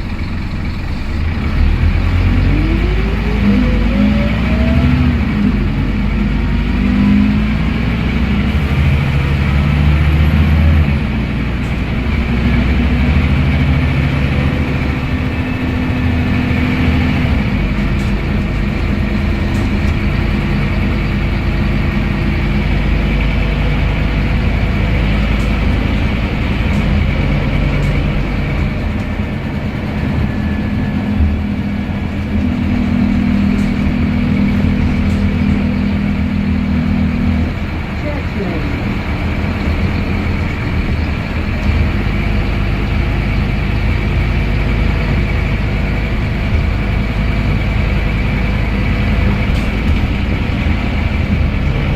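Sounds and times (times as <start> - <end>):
bus engine running: 0.0 - 51.9
gearbox whine: 0.0 - 51.9.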